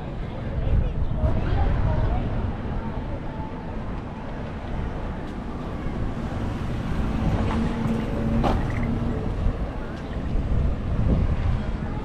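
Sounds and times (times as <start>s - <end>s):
outdoor noise: 0.0s - 12.0s
wind buffeting microphone: 0.0s - 12.0s.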